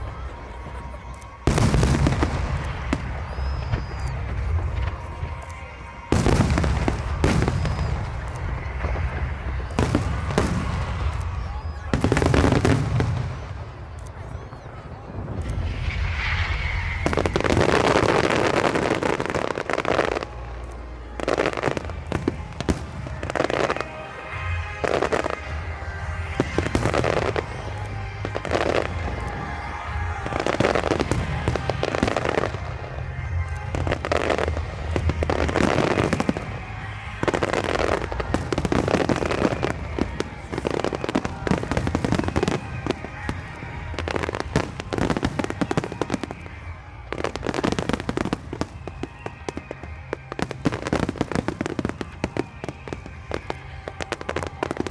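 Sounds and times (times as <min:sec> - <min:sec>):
fireworks bursting: 0:00.0 - 0:54.9
fireworks crackling: 0:00.0 - 0:54.9.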